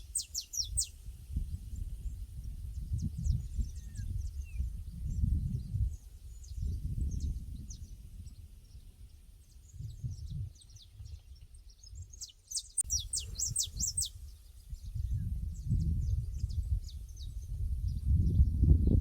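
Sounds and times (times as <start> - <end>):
small birds chirping: 0.0 - 18.5.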